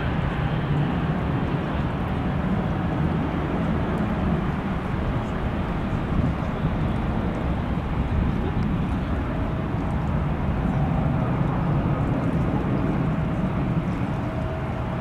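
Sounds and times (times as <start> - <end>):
faint jet engine whine: 0.0 - 15.0
low jet rumble: 0.0 - 15.0.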